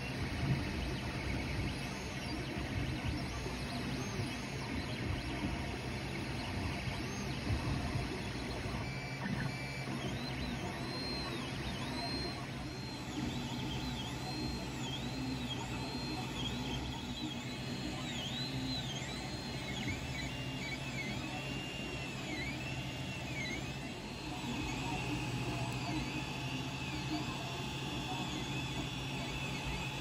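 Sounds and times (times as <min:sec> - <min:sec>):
stepper motors whining: 0:00.6 - 0:30.0
cooling fans humming: 0:04.1 - 0:30.0.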